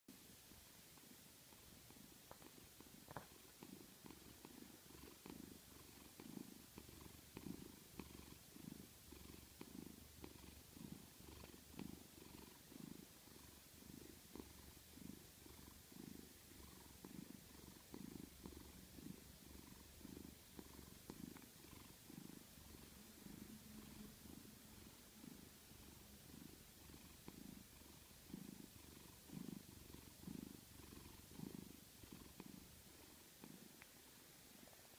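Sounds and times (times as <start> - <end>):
soft snoring: 1.5 - 34.9.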